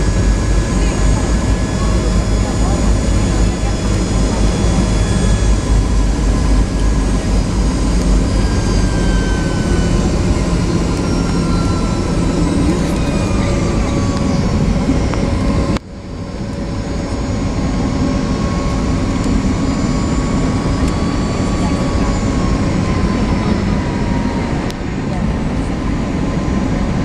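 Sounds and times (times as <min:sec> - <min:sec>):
airliner cabin engine rumble: 0:00.0 - 0:27.0.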